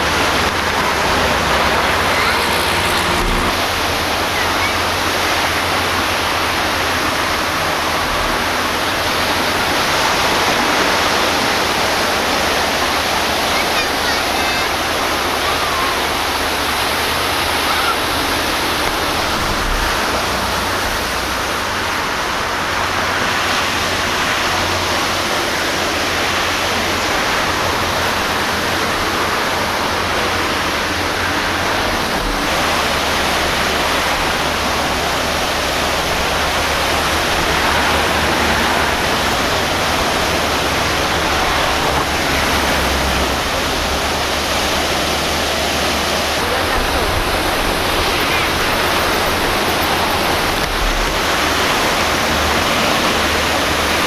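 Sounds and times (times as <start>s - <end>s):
sea surf washing at shore: 0.0s - 54.0s.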